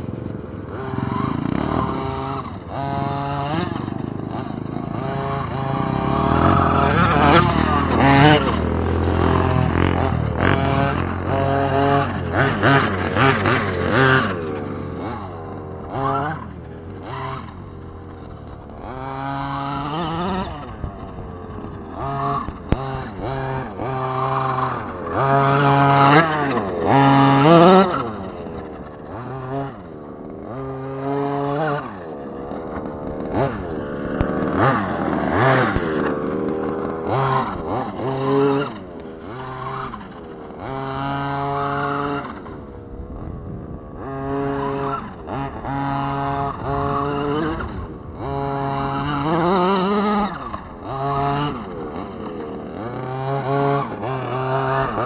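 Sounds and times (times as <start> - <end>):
deep engine drone: 0.0 - 55.0
small two-stroke engine revving: 0.0 - 55.0.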